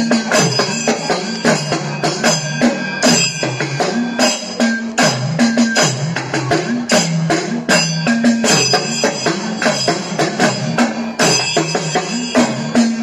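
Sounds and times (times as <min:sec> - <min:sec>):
hourglass drum struck rapidly: 0:00.0 - 0:13.0
other percussion: 0:00.0 - 0:13.0.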